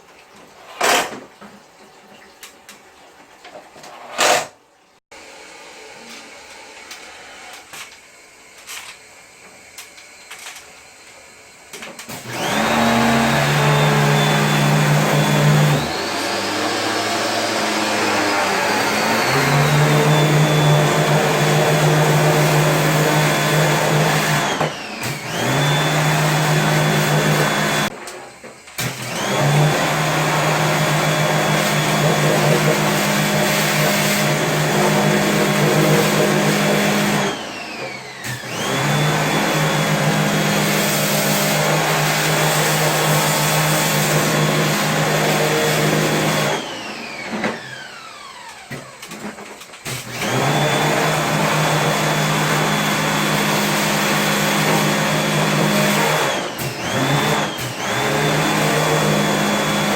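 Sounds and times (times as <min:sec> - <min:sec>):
cleaning machine motor whine: 0:05.2 - 0:49.0, 0:50.0 - 0:59.9.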